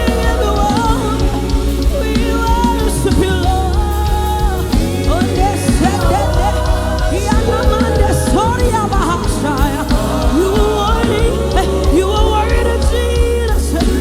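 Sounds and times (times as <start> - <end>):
gospel band bass and drums: 0.0 - 14.0.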